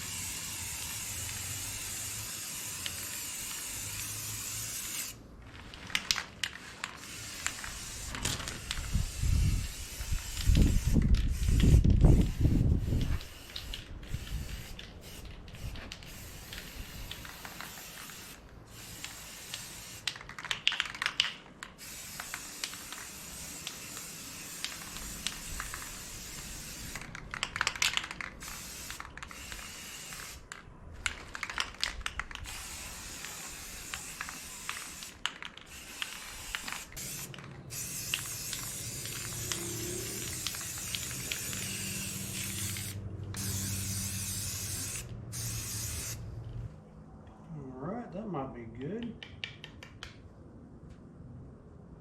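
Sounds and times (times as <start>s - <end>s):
spray paint can hissing: 0.0s - 46.3s.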